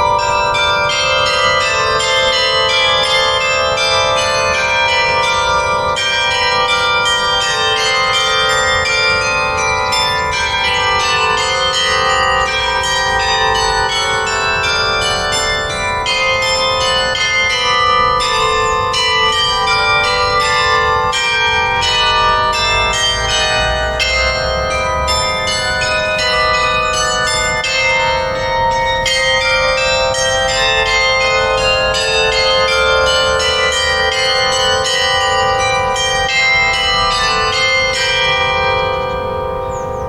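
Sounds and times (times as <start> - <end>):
bells chiming: 0.0 - 40.0.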